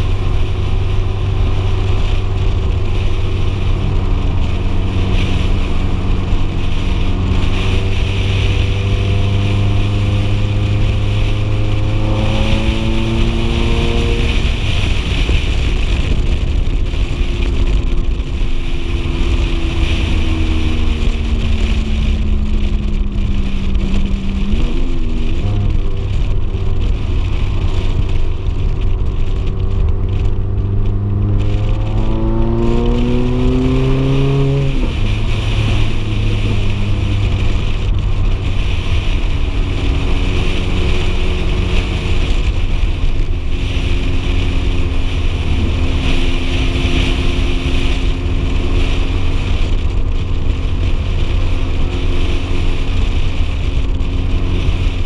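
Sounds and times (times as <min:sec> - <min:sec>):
sports car engine accelerating: 0:00.0 - 0:55.0
wind rushing over microphone: 0:00.0 - 0:55.0.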